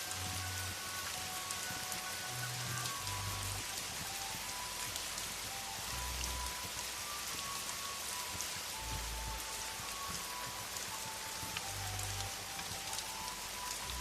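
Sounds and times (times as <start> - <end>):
soft music with held notes: 0.0 - 14.0
steady rain falling: 0.0 - 14.0.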